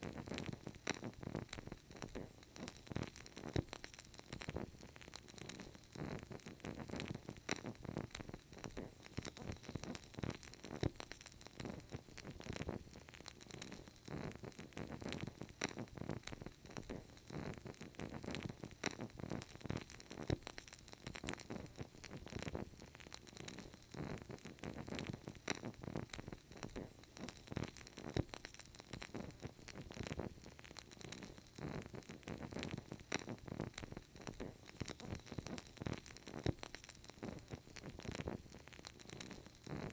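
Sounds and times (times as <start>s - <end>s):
candle crackling softly: 0.0s - 39.9s
faint steady hiss: 0.0s - 39.9s.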